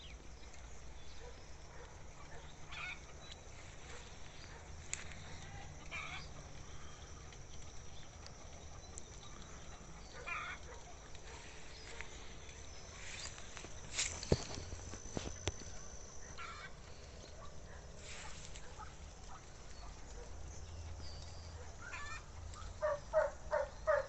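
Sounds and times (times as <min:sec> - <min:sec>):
outdoor background noise: 0:00.0 - 0:24.0
distant fowl calling: 0:01.2 - 0:20.4, 0:21.5 - 0:24.0.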